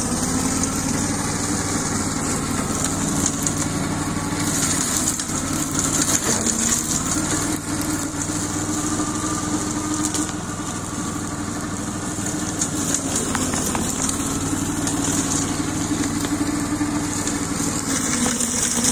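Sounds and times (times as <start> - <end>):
tractor engine running: 0.0 - 18.9.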